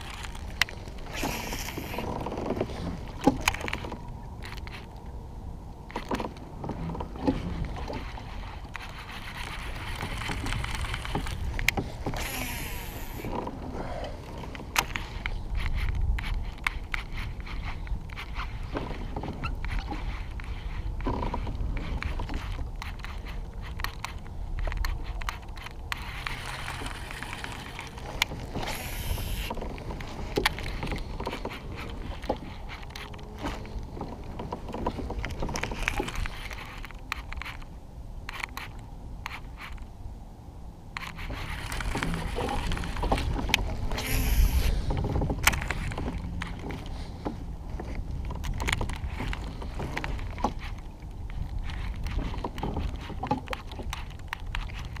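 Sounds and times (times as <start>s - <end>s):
fishing gear scraping and clicking: 0.0s - 5.1s, 5.8s - 40.0s, 40.9s - 55.0s.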